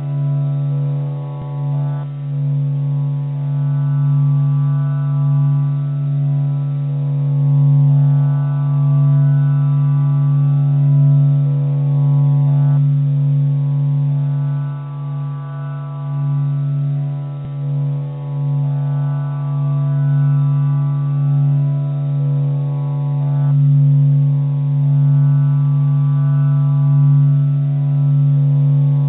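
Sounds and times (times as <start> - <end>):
low droning tone: 0.0 - 29.0.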